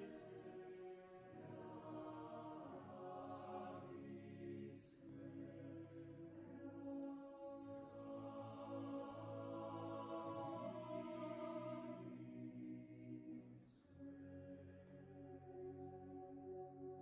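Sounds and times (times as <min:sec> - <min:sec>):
choir singing a cappella: 0:00.0 - 0:17.0.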